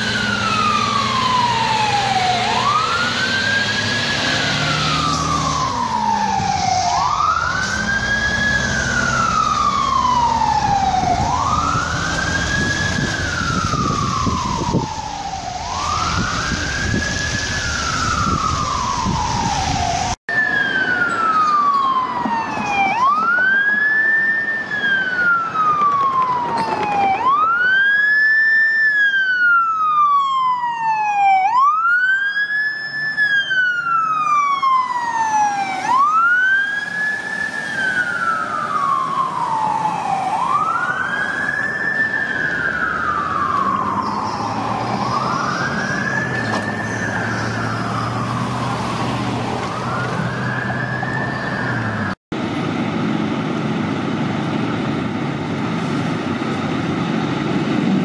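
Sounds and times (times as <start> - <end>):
fire truck siren wailing: 0.0 - 58.0
street traffic: 0.0 - 58.0.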